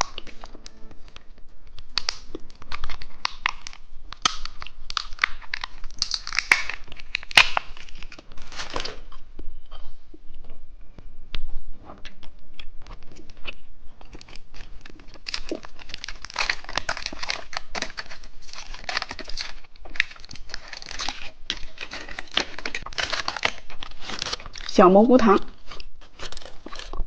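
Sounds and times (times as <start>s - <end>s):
plastic packaging crinkling and tearing: 0.0s - 9.2s, 12.0s - 27.0s.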